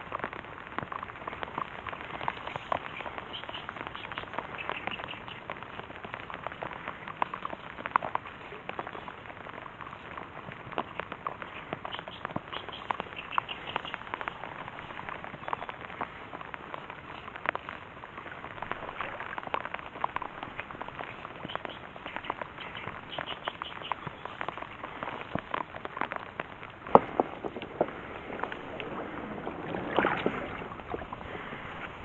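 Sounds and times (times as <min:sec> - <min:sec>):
light rain pattering on water: 0:00.0 - 0:32.0.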